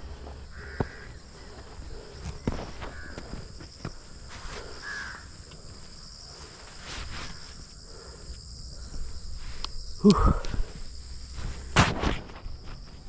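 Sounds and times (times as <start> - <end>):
insects shrilling: 0.0 - 12.9.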